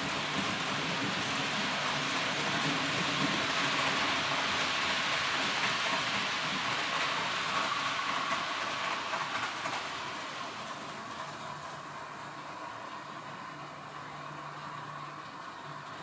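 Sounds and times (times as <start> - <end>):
model train whirring: 0.0 - 16.0.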